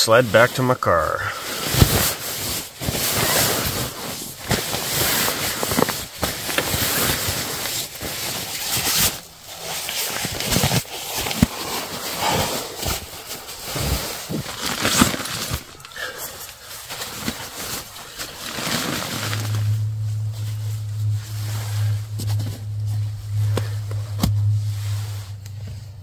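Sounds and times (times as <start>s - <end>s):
fabric and tarp rustling: 0.0s - 26.0s.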